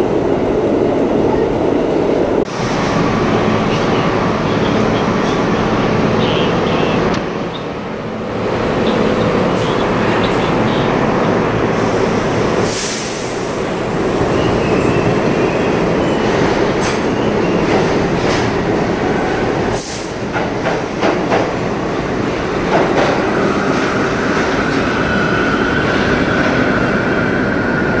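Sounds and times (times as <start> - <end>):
subway train rumbling past: 0.0 - 28.0.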